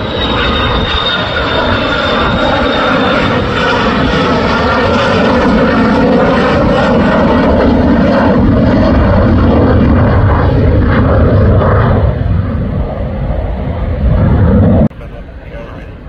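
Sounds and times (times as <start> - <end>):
jet engine roaring: 0.0 - 16.0.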